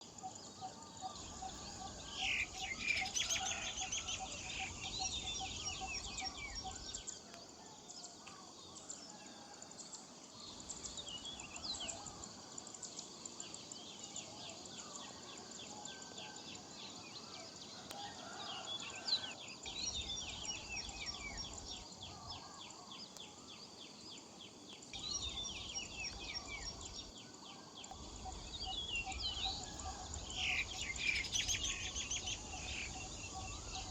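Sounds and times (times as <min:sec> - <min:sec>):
birds chirping and trilling: 0:00.0 - 0:07.3, 0:13.3 - 0:33.9.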